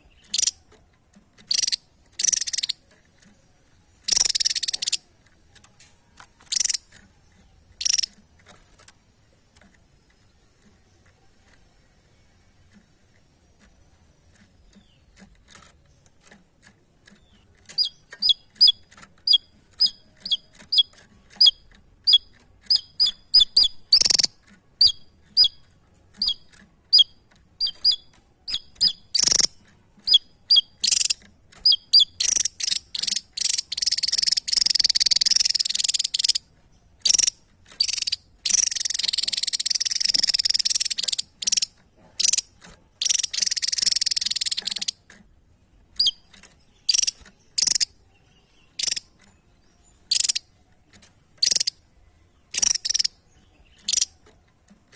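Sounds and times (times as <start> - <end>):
songbird chirping and warbling: 0.0 - 54.9.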